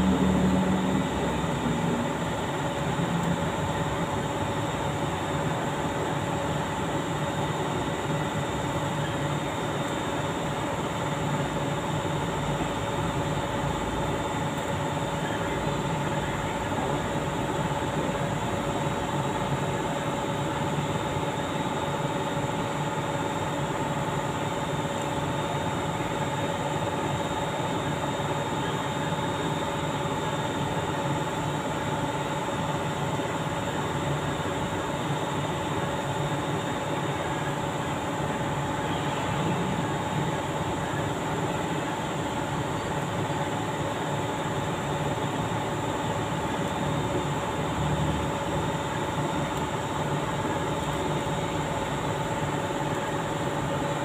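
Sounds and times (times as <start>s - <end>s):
machine drone with hiss: 0.0s - 54.0s.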